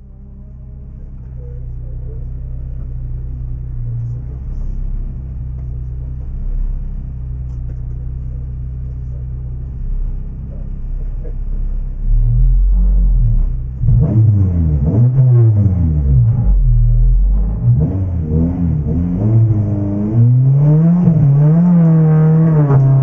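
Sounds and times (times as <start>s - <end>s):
car engine idling: 0.0s - 14.9s, 15.7s - 23.0s.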